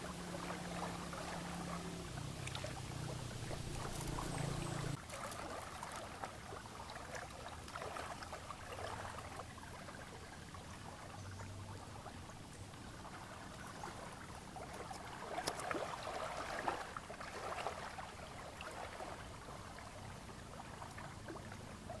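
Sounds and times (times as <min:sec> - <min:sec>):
water lapping against shore: 0:00.0 - 0:22.0.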